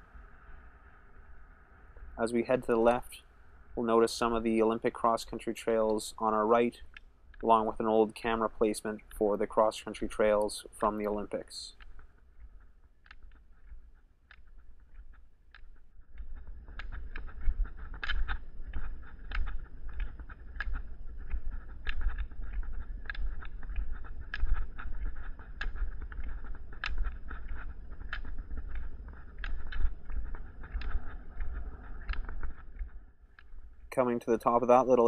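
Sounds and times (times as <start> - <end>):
rolling and wind noise: 0.0 - 35.0
rhythmic sharp clicks: 2.3 - 35.0.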